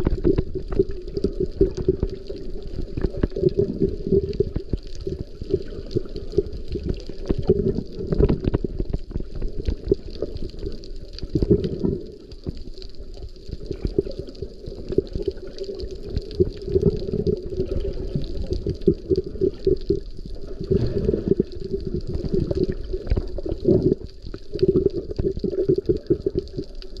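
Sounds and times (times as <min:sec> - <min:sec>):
crackle of small clicks: 0:00.0 - 0:27.0
underwater water sloshing: 0:00.0 - 0:27.0.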